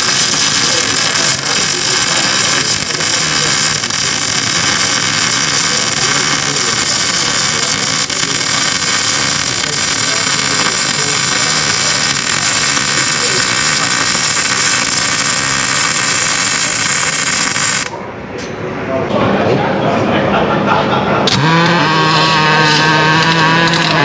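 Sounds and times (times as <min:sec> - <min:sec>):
welding equipment hissing: 0:00.0 - 0:17.9, 0:21.3 - 0:24.0.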